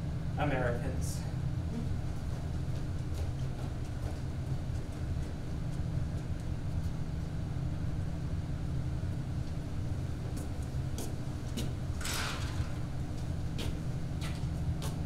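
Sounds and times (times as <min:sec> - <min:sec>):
low rumbling room hum: 0:00.0 - 0:15.0.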